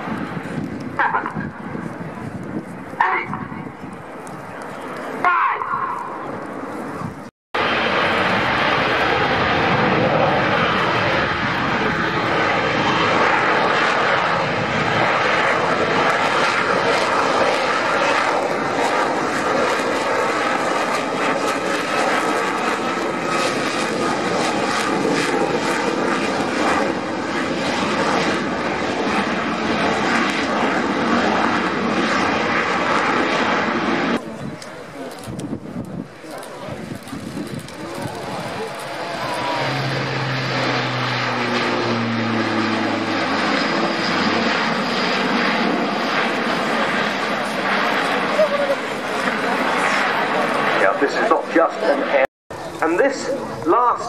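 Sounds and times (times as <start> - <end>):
jet engine roaring: 0.0 - 54.0.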